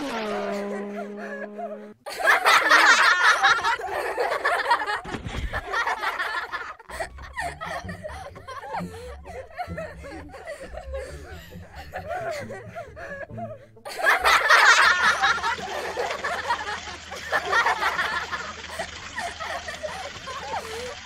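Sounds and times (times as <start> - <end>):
people laughing: 0.0 - 21.0.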